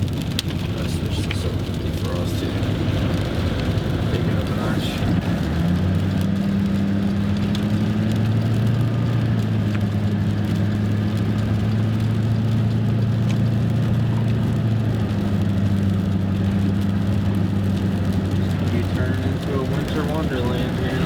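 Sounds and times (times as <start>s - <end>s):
truck engine and road drone: 0.0s - 21.0s.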